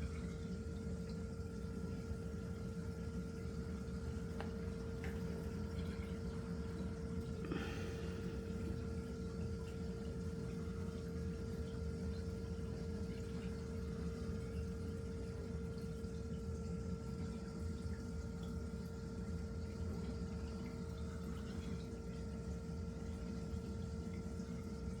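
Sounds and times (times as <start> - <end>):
aquarium pump hum: 0.0 - 25.0.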